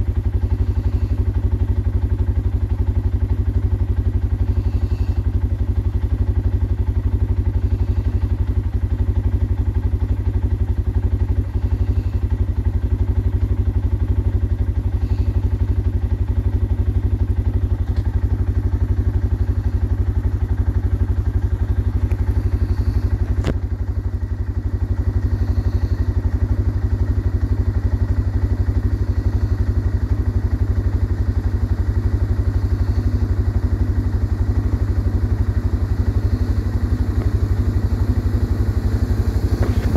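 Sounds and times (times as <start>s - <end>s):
quad bike engine idling: 0.0s - 39.9s.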